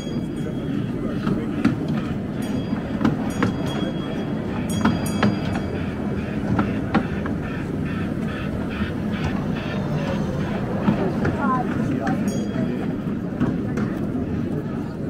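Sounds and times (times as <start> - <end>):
crowd chattering: 0.0 - 15.0.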